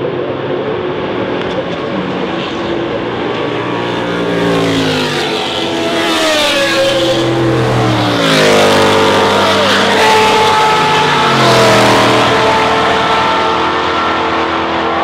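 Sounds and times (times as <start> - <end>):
racing cars passing: 0.0 - 15.0.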